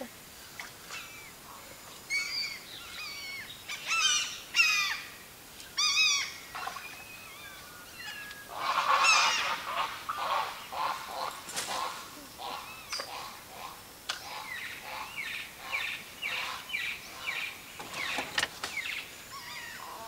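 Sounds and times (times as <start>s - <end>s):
wild birds calling: 0.0s - 20.0s.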